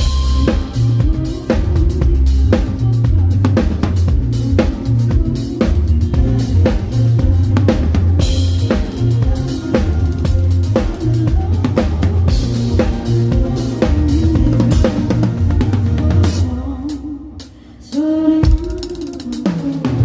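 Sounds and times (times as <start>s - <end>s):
heavy bass line: 0.0s - 16.8s
drum kit beat: 0.0s - 20.0s
live band music: 0.0s - 20.0s.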